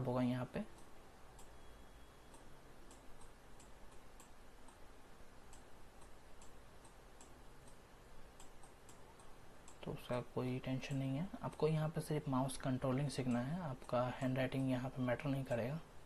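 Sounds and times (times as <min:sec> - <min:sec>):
low room hiss: 0:00.0 - 0:16.0.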